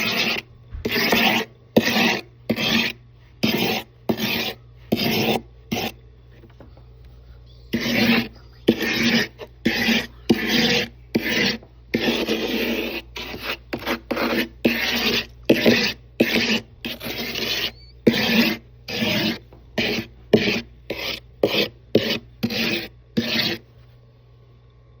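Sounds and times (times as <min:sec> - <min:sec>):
scraping frost ice: 0:00.0 - 0:06.0, 0:07.7 - 0:23.6.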